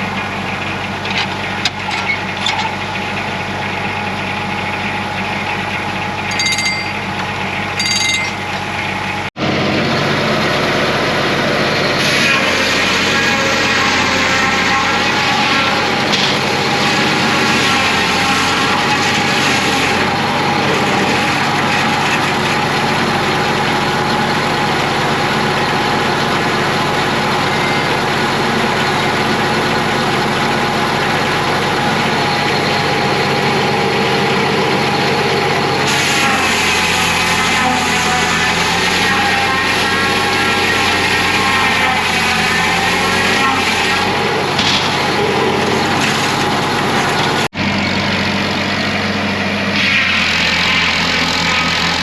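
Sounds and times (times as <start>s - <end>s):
bandsaw sawmill droning: 0.0s - 52.0s.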